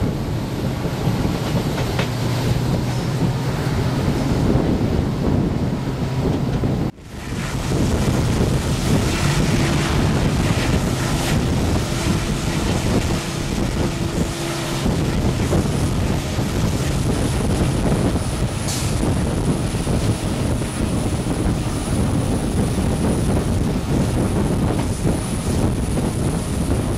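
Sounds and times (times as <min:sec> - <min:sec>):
train coaches running: 0:00.0 - 0:26.9
wind rushing on microphone: 0:00.0 - 0:26.9.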